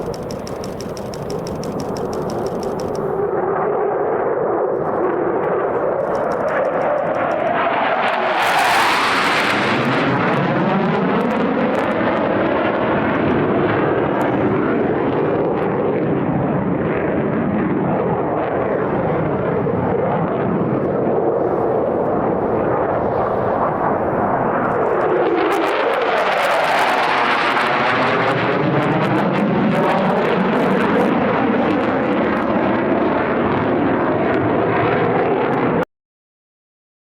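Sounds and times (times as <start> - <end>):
jets flying low past: 3.0 - 35.8.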